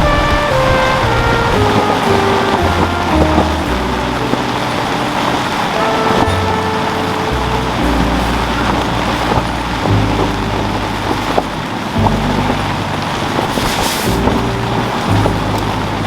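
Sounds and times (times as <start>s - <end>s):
low hum: 0.0s - 16.0s
rain falling: 0.0s - 16.0s.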